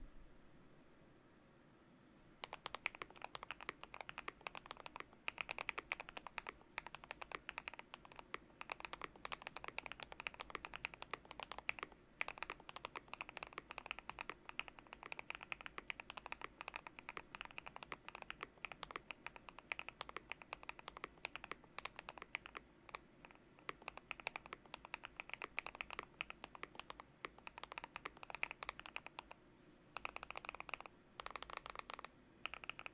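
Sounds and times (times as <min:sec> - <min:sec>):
mechanical keyboard typing: 0:02.4 - 0:29.4, 0:30.0 - 0:32.9.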